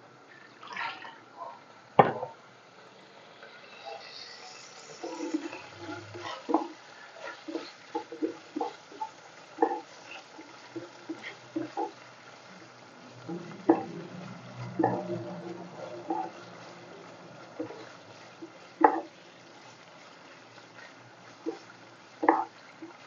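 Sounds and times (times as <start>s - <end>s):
meat sizzling in oil: 2.0s - 23.0s
wooden spatula scraping frying pan: 4.0s - 23.0s.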